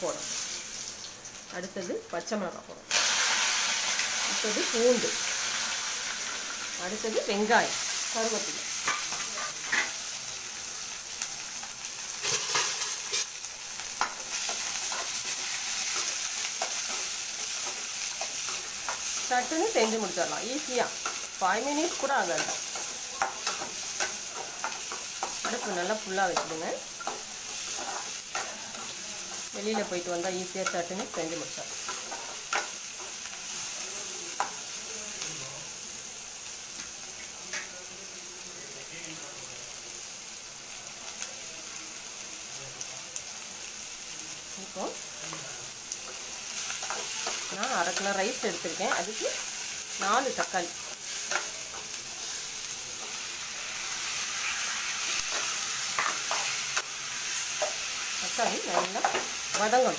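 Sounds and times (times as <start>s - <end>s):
spices sizzling in hot oil: 0.0s - 59.9s.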